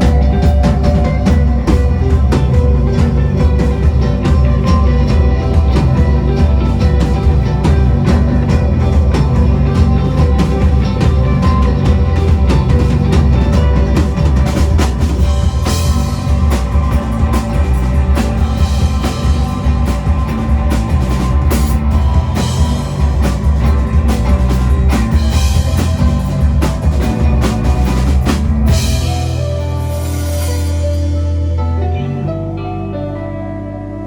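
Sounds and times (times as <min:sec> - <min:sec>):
drum kit hitting hard: 0:00.0 - 0:31.5
rock band playing live: 0:00.0 - 0:34.0.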